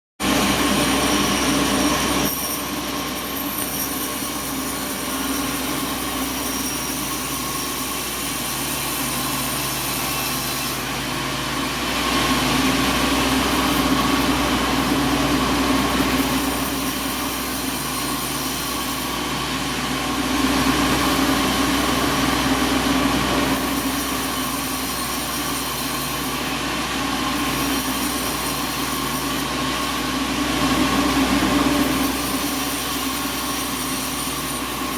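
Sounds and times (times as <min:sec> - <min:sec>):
sawmill machinery drone: 0:00.2 - 0:34.9.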